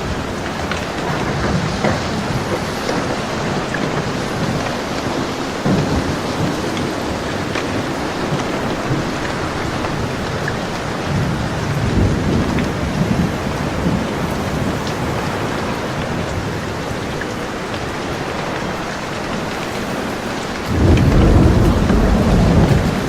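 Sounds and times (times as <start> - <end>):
steady rain falling: 0.0 - 23.0
thunder rumbling: 0.0 - 23.0.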